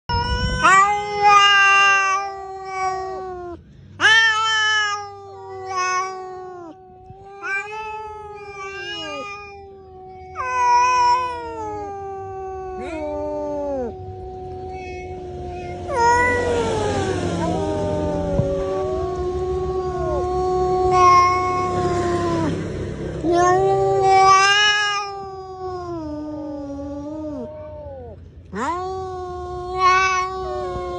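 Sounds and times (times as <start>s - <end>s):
cat low steady yowl: 0.1s - 30.9s
cat wailing calls: 0.1s - 30.9s.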